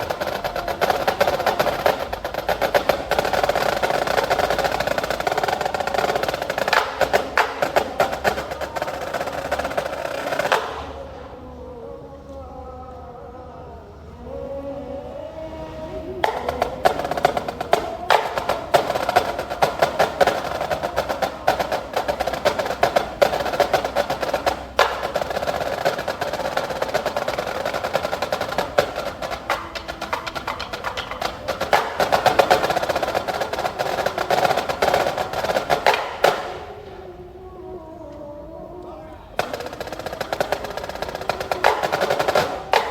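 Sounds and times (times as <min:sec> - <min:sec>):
marching band drums: 0:00.0 - 0:11.0, 0:16.2 - 0:36.7, 0:39.4 - 0:42.9.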